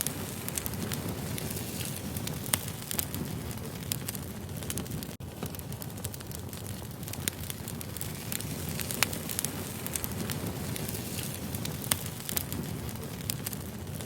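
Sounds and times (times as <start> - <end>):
firewood crackling and popping: 0.0 - 14.0
flames rushing: 0.0 - 14.0.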